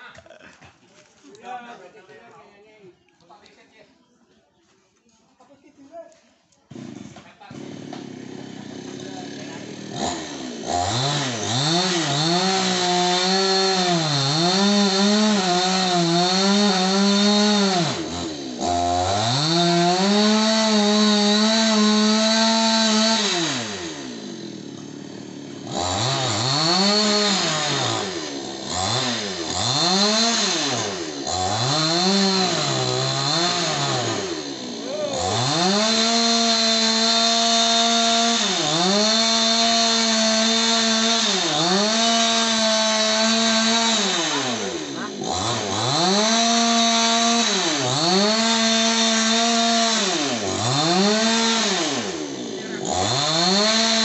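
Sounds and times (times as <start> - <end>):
chainsaw cutting wood: 6.7 - 54.0.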